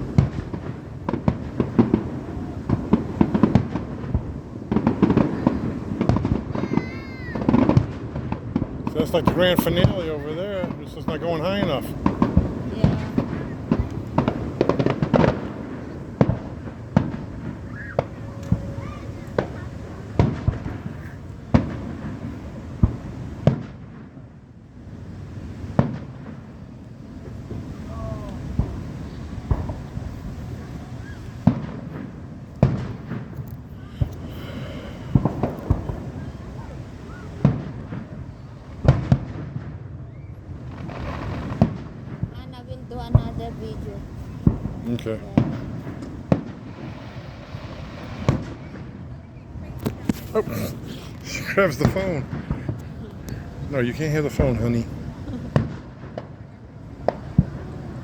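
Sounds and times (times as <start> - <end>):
fireworks bangs and pops: 0.0 - 58.0.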